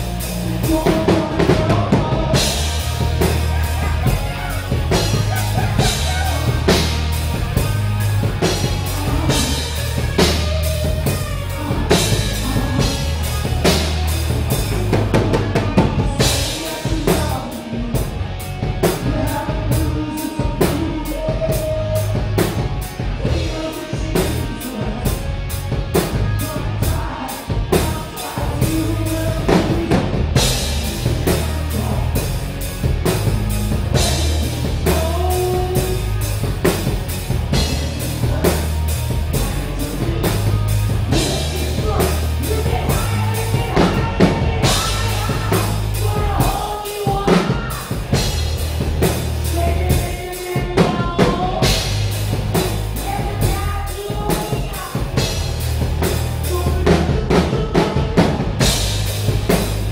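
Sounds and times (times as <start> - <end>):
person singing: 0.0 - 58.8
drum kit pounding: 0.0 - 59.9
rock band playing: 0.0 - 59.9.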